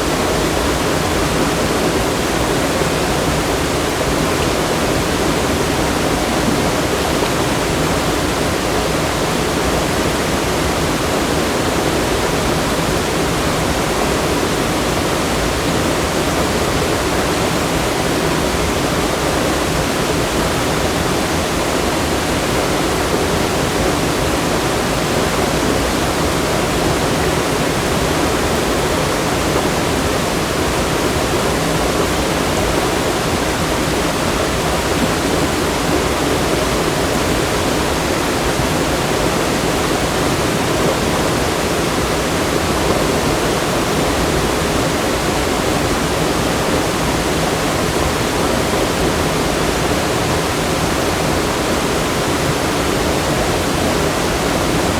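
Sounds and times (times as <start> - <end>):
fast-flowing water rushing: 0.0 - 54.9.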